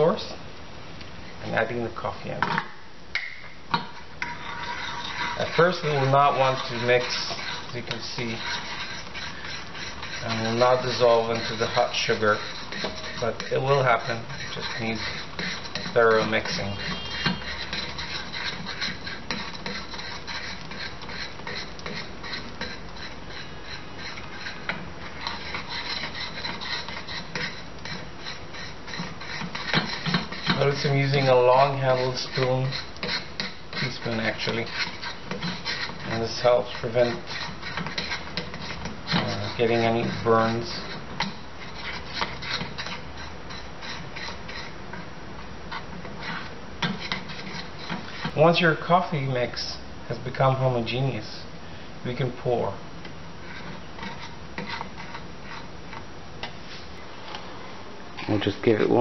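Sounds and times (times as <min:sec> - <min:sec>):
spoon scraping metal saucepan: 0:03.7 - 0:45.1, 0:45.7 - 0:49.6, 0:53.4 - 0:56.6.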